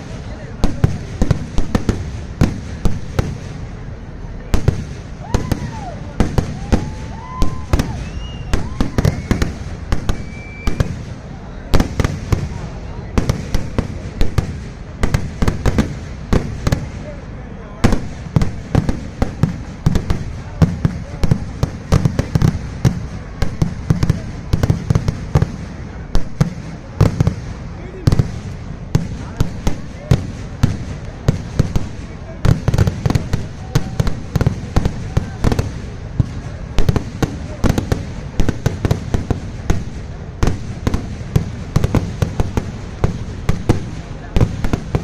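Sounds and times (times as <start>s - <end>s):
fireworks bangs: 0.0s - 45.0s.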